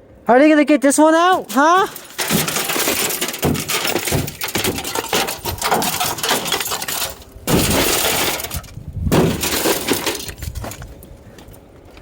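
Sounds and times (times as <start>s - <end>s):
glass breaking and crunching: 1.3s - 11.0s.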